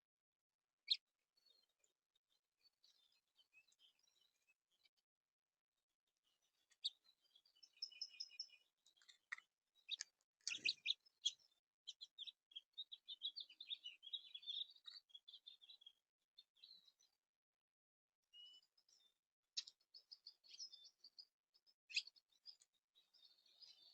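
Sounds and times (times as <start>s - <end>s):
songbirds chirping: 0.8s - 5.0s, 5.8s - 17.3s, 18.2s - 23.9s.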